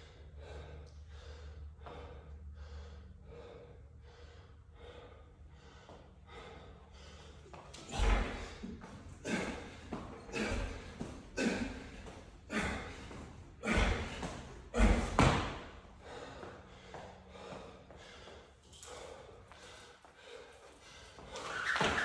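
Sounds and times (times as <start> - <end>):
hard gasping breaths: 0.0 - 21.4.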